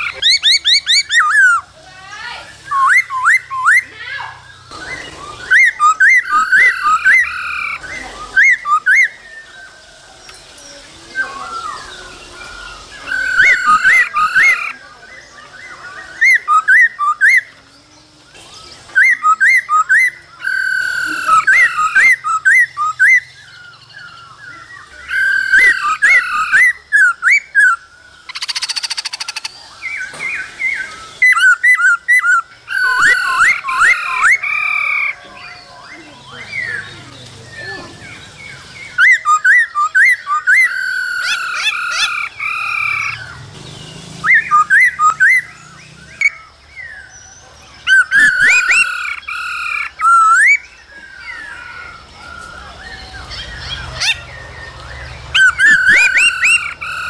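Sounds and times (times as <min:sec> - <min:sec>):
harsh rasping bird call: 0:00.0 - 0:09.5, 0:11.2 - 0:14.9, 0:18.4 - 0:37.0, 0:37.6 - 0:47.1, 0:47.8 - 0:57.0
bird whistled song: 0:00.0 - 0:57.0.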